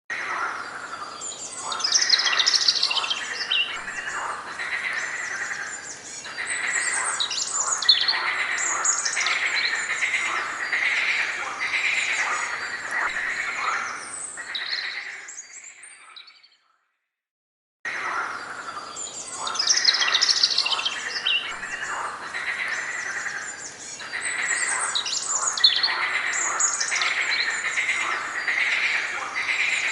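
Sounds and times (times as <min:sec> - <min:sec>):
forest birds chirping and singing: 0:00.1 - 0:17.0, 0:17.9 - 0:29.9.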